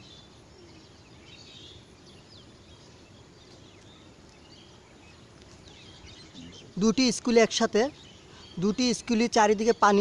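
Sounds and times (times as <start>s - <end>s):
faint birds chirping: 0.0s - 10.0s
low background noise: 0.0s - 10.0s.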